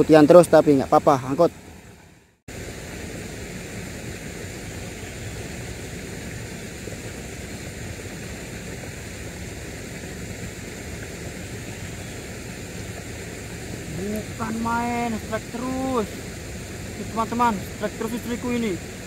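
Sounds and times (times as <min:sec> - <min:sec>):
steady outdoor rushing hiss: 0:00.0 - 0:19.0.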